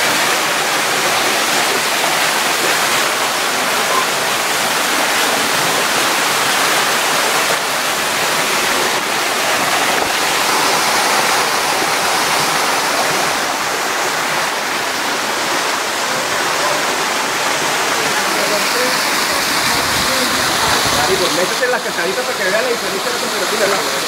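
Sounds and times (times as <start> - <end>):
waterfall splashing into pool: 0.0 - 24.0.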